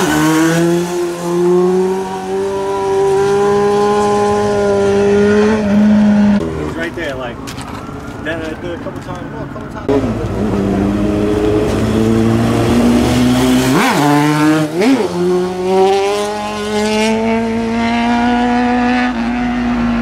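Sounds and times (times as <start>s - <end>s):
motorcycle engine revving: 0.0s - 7.0s, 9.9s - 20.0s.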